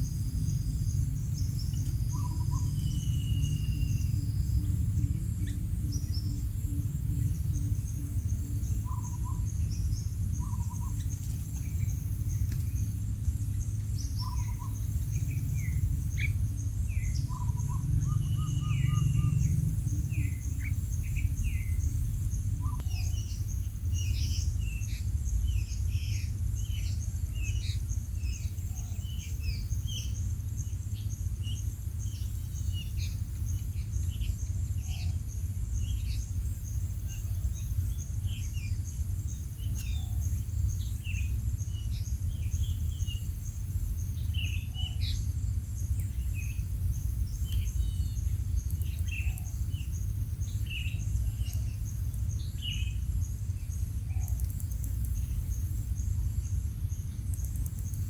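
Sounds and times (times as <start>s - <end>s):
birds chirping and calling: 0.0s - 58.0s
high insect trill: 0.0s - 58.0s
low rumble: 0.0s - 58.0s.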